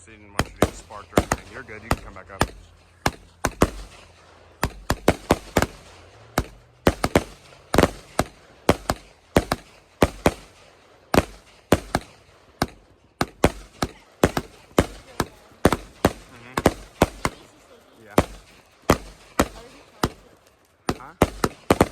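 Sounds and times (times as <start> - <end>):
fireworks bangs: 0.0 - 21.9.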